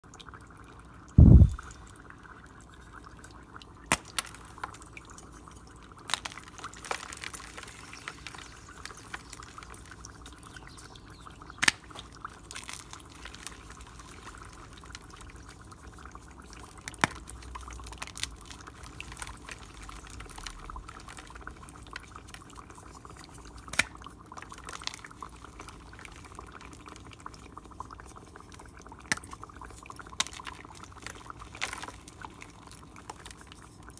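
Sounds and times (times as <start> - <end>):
dry ice bubbling in water: 0.0 - 33.9.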